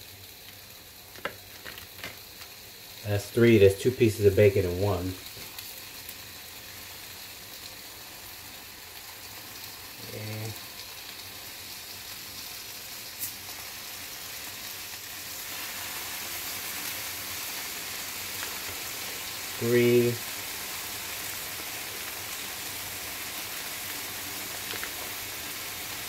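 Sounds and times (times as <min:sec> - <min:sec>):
bacon sizzling in a skillet: 0:00.0 - 0:26.0.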